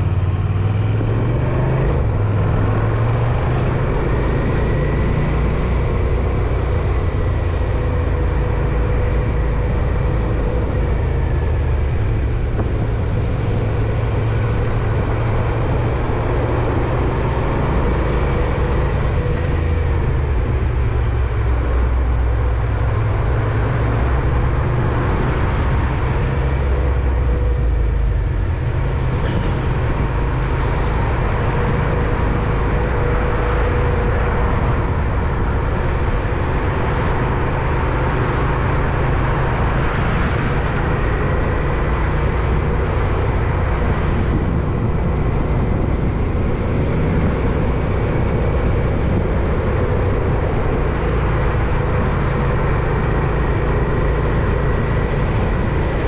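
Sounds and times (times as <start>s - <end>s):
road noise: 0.0s - 56.0s
wind on microphone: 5.8s - 56.0s.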